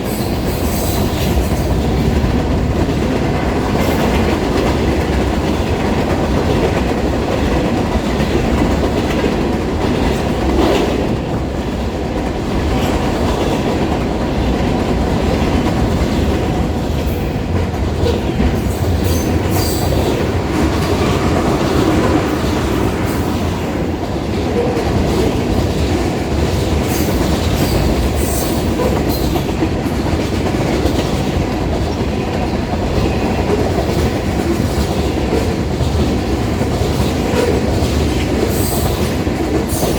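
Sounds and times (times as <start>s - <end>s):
freight train cars rumbling: 0.0s - 39.9s
wheels clacking over rails: 0.2s - 39.9s.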